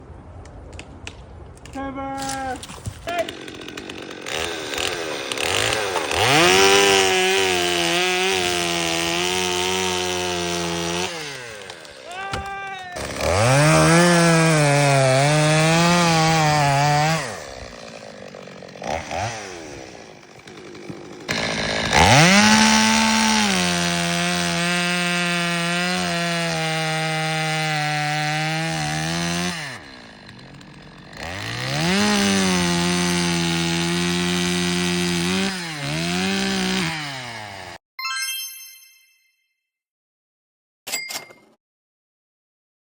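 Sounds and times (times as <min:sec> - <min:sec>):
chainsaw cutting wood: 0:02.2 - 0:37.8.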